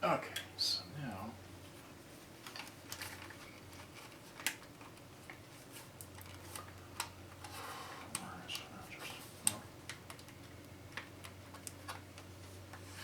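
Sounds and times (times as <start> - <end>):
faint steady low hum: 0.0 - 13.0.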